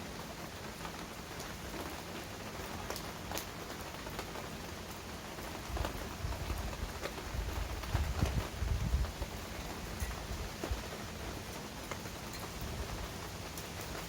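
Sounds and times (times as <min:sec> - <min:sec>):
heavy rain falling: 0:00.0 - 0:14.0
raindrops striking a surface: 0:00.0 - 0:14.0.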